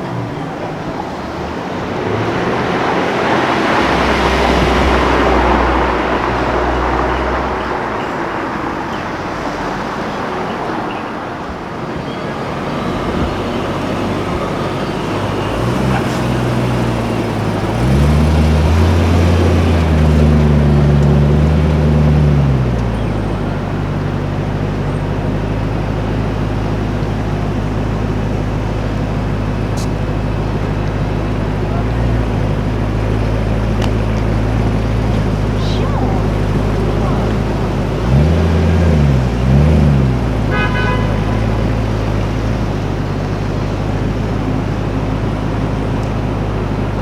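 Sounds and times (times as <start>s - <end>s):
car engine revving: 0.0s - 47.0s
street traffic noise: 0.0s - 47.0s.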